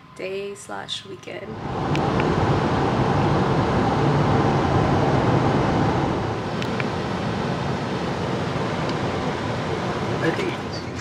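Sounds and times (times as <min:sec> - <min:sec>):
car road and engine noise: 0:01.4 - 0:11.0.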